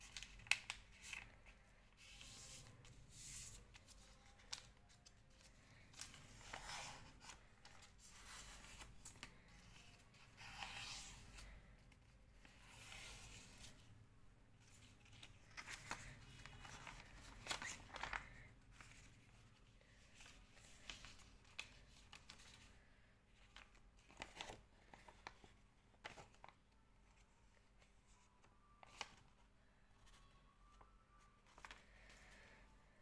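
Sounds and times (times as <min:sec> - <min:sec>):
paper rustling and crinkling: 0:00.0 - 0:13.9, 0:14.6 - 0:32.5.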